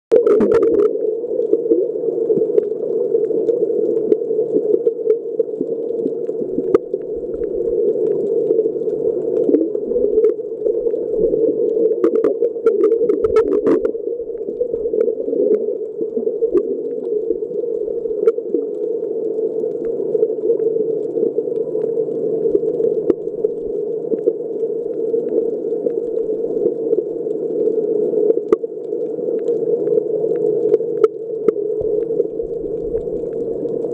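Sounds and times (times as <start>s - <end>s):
faint clicks and crackles: 0.1s - 33.9s
muffled underwater water wash: 0.1s - 33.9s.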